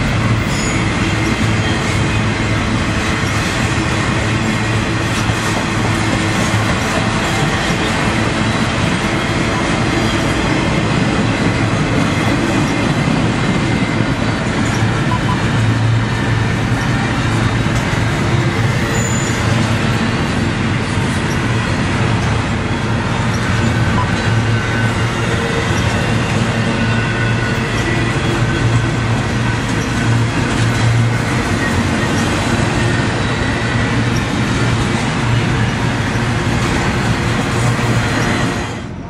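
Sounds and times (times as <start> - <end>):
steel wheels on rail: 0.0 - 39.0.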